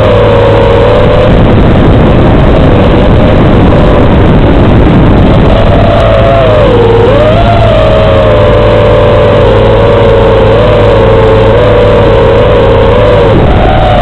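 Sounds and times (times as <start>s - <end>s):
drone motor whine: 0.0s - 14.0s.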